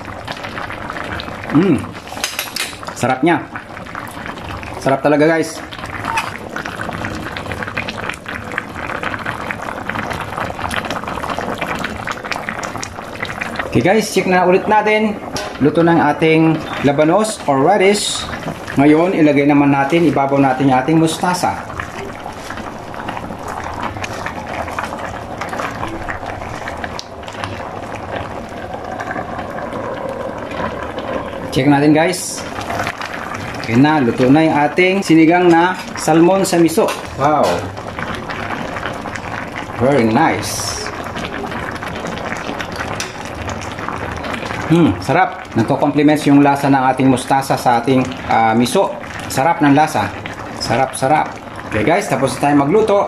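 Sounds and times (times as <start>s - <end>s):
broth boiling with bubbles popping: 0.0s - 53.0s.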